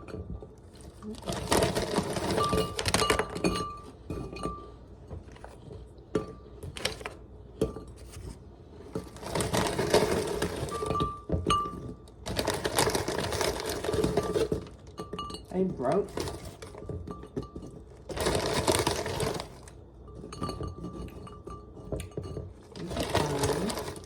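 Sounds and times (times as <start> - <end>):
clinks and knocks: 0.0 - 7.0, 9.1 - 24.0.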